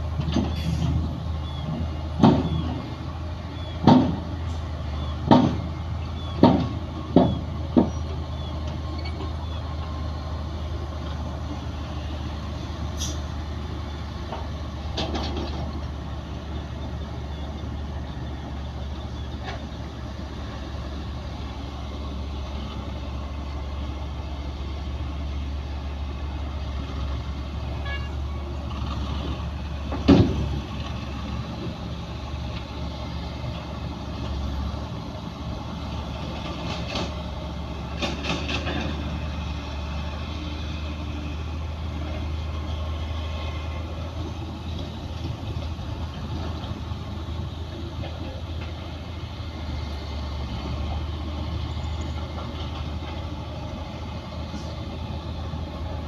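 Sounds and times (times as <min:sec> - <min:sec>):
diesel machinery droning: 0:00.0 - 0:56.0.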